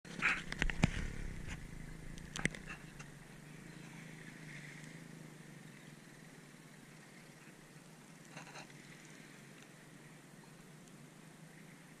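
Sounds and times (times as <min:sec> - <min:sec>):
faint low hum: 0:00.1 - 0:12.0.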